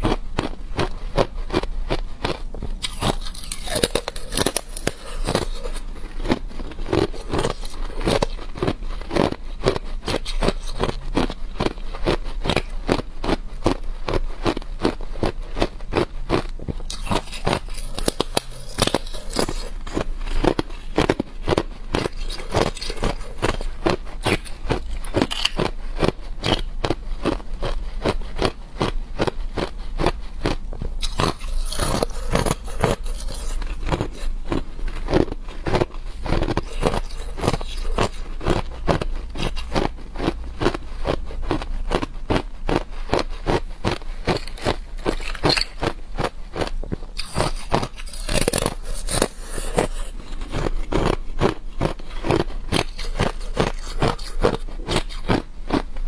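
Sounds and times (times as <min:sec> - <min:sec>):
ice being chewed and crunched: 0:00.0 - 0:56.0.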